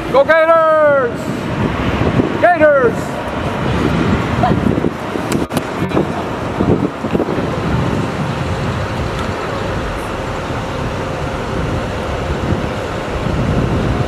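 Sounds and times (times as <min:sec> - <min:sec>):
rush of traffic: 0:00.0 - 0:14.0.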